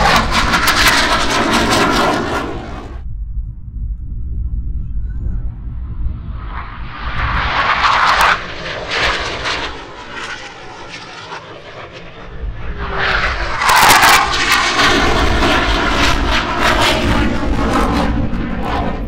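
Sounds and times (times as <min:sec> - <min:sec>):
jet roar with crackling: 0:00.0 - 0:03.1, 0:06.4 - 0:19.0.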